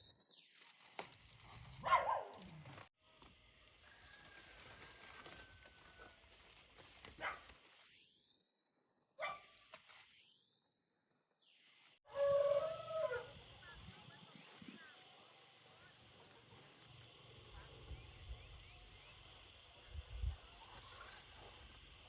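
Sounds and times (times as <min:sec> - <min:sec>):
outdoor farm background: 0:00.0 - 0:22.0.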